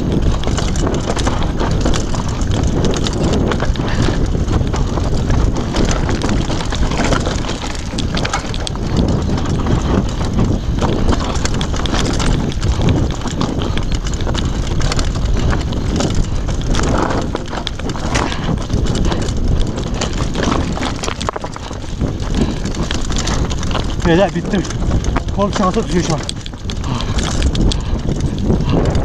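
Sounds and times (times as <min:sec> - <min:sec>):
bike rattling: 0:00.0 - 0:29.0
tyres crunching on stones: 0:00.0 - 0:29.0
wind rumble on microphone: 0:00.0 - 0:29.0.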